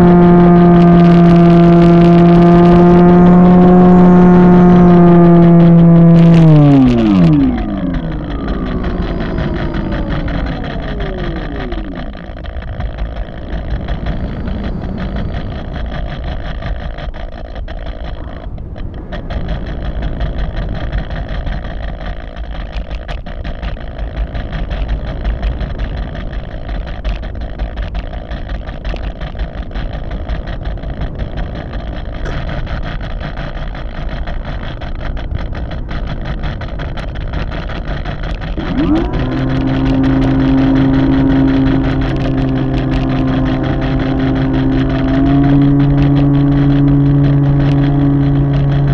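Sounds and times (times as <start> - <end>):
model airplane motor: 0.0 - 48.9
wind rushing over microphone: 0.0 - 48.9.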